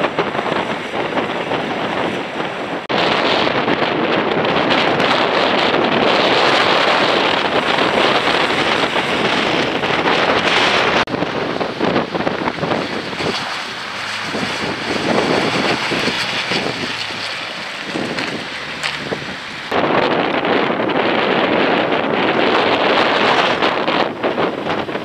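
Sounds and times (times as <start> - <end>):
vehicle engine droning: 0.0 - 25.0
wind buffeting microphone: 0.0 - 25.0.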